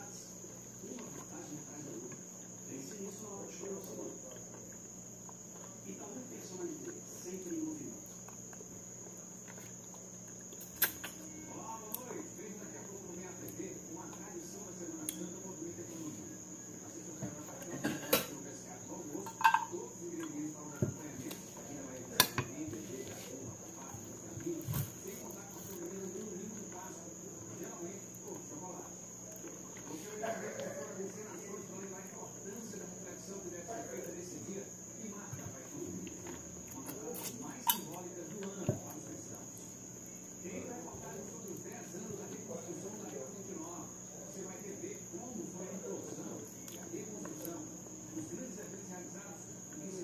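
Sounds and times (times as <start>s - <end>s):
high cricket trill: 0.0s - 50.0s
insect chirring: 0.0s - 50.0s
low constant hum: 0.0s - 50.0s
soft chewing: 0.4s - 19.2s, 19.8s - 50.0s.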